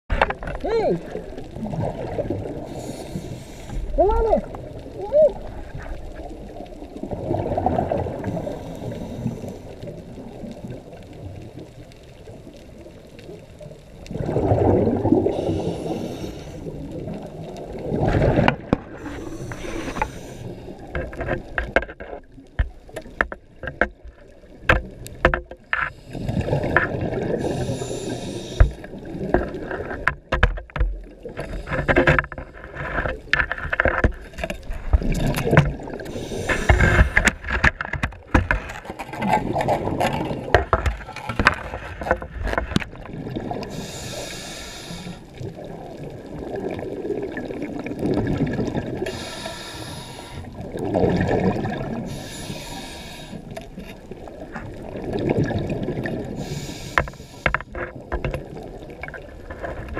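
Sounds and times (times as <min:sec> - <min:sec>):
muffled underwater rushing water: 0:00.1 - 0:59.9.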